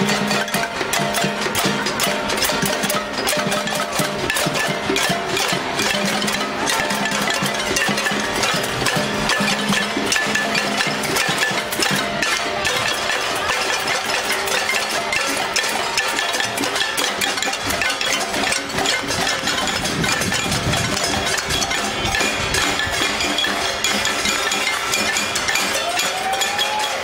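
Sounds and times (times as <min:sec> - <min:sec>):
crowd banging pots and pans: 0:00.0 - 0:27.0.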